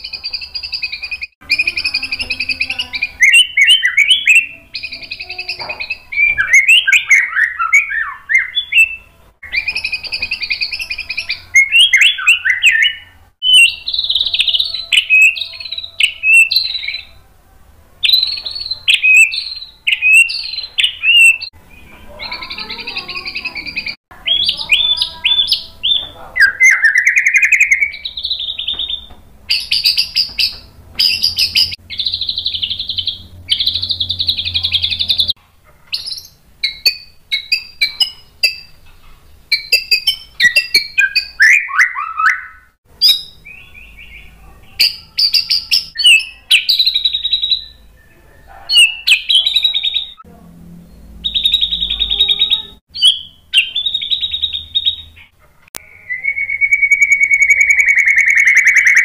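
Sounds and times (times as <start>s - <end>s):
bird singing trills and whistles: 0.0s - 17.2s, 18.0s - 50.2s, 50.8s - 59.0s.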